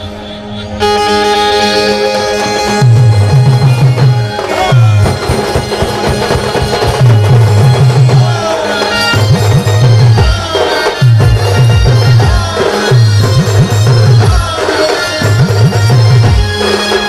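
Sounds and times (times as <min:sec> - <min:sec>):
band music: 0:00.0 - 0:17.0.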